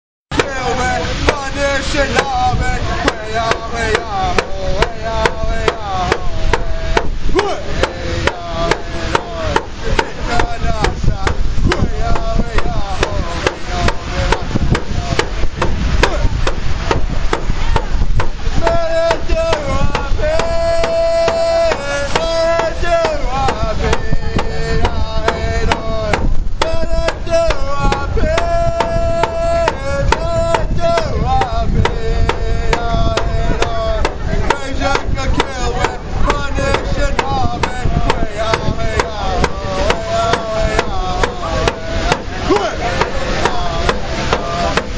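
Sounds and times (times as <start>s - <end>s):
hand drum beaten with stick: 0.3s - 44.9s
man singing: 0.3s - 44.9s.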